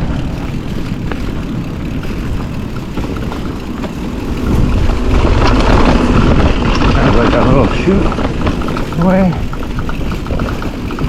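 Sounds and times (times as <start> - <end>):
bike rattling clicks: 0.0 - 11.0
mountain bike rolling on dirt trail: 0.0 - 11.0
wind over microphone: 0.0 - 11.0.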